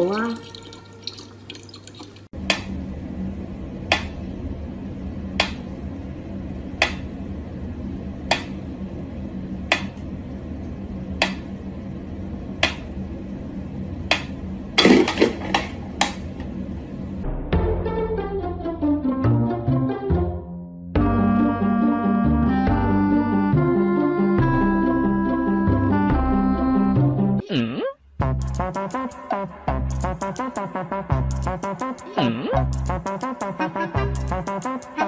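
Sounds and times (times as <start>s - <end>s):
low steady hum: 0.0s - 17.4s, 21.0s - 35.0s.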